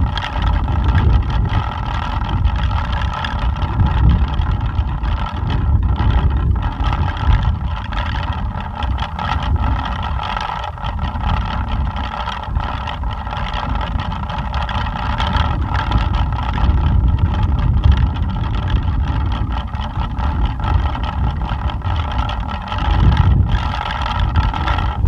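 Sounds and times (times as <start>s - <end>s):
pinwheel whirring: 0.0s - 25.0s
wind rumble on microphone: 0.0s - 25.0s.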